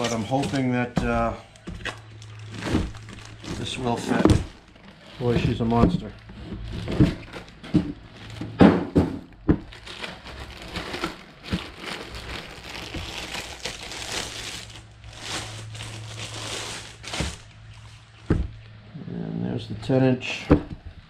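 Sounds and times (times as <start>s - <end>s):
plastic bag crinkling: 0.0s - 8.5s, 9.6s - 18.3s.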